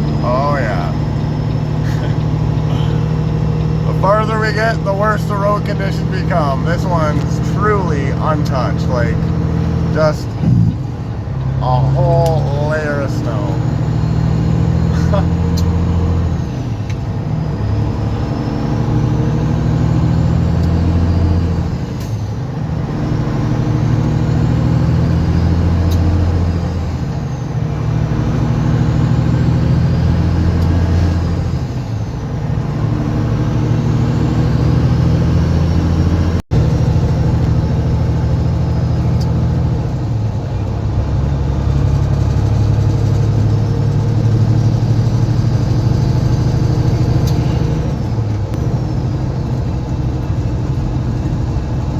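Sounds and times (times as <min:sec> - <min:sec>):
truck diesel engine changing gears: 0:00.0 - 0:51.9.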